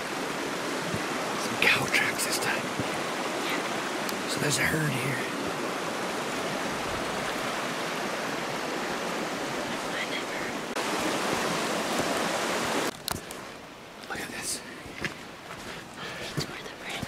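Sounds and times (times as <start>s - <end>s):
river rushing over gravel: 0.0s - 17.0s.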